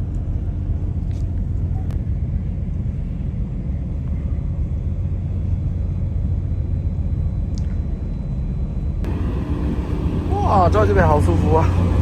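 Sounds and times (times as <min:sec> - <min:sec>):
ship low rumble: 0:00.0 - 0:12.0.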